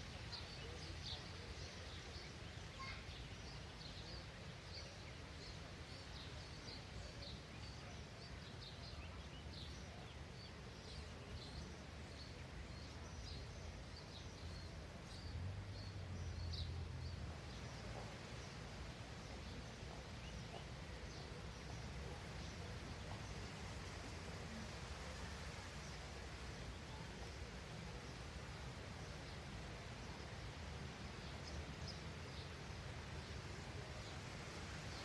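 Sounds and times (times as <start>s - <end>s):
small songbirds chirping: 0.0s - 35.0s.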